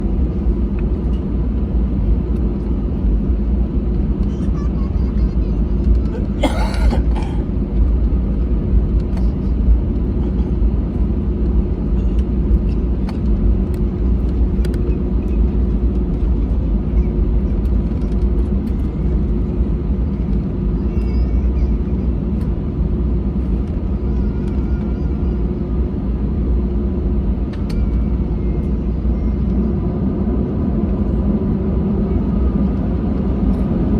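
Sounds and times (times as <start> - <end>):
airplane cabin engine rumble: 0.0 - 33.9
constant hum: 0.0 - 33.9.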